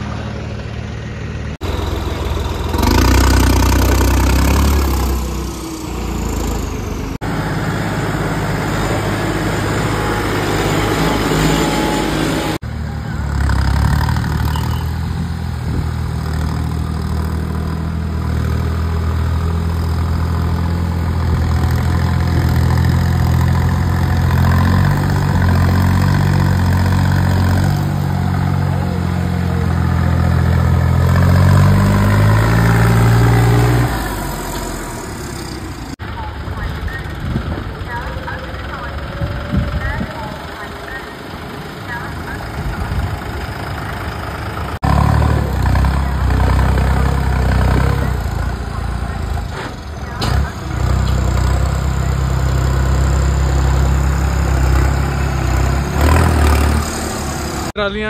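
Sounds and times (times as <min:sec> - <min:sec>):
diesel tractor engines running: 0:00.0 - 0:58.0.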